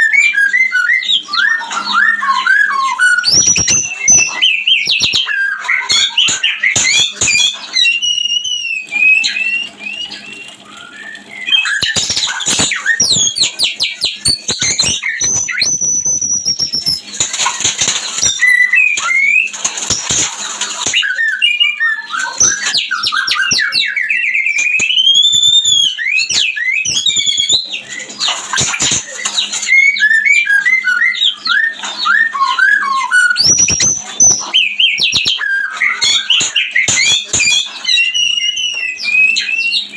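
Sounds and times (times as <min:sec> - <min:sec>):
songbird whistling and trilling: 0:00.0 - 0:20.2, 0:20.8 - 0:39.9.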